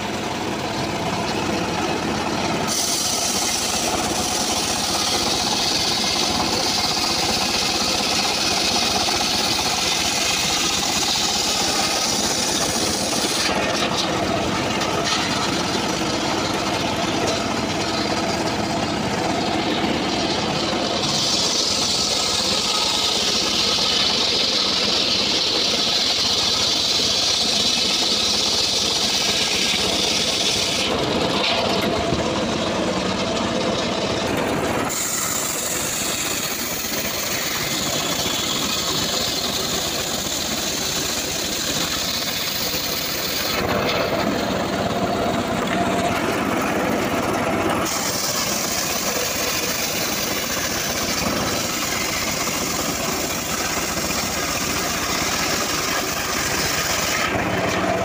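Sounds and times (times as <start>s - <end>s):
circular saw blade cutting wood: 0.0s - 58.0s
engine running: 0.0s - 58.0s.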